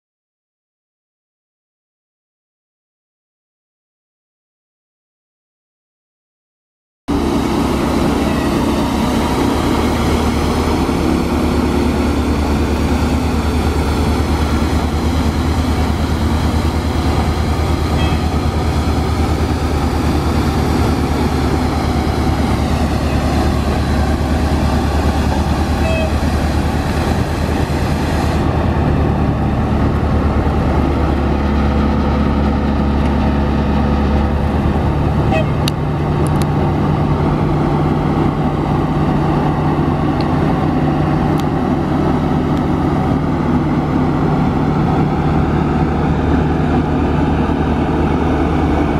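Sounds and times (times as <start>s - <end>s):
diesel engine running steadily: 7.1s - 48.9s.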